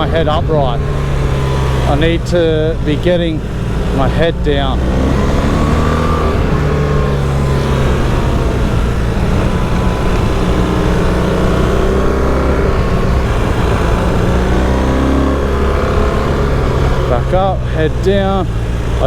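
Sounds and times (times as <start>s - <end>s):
motorcycle engine running hard: 0.0s - 19.0s
rushing wind noise: 0.0s - 19.0s.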